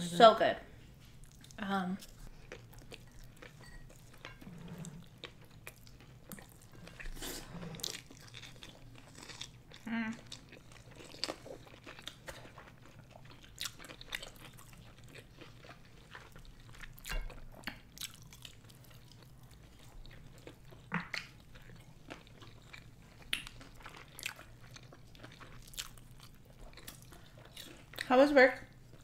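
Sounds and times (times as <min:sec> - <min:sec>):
chewing with wet mouth clicks: 0:01.2 - 0:07.2, 0:07.8 - 0:28.1.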